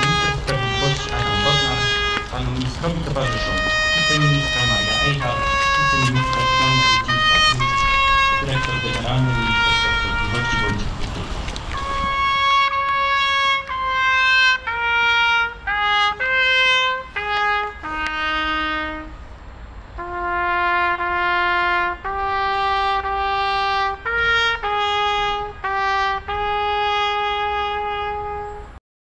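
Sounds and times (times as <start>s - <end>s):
solo trumpet slow melody: 0.0s - 28.8s.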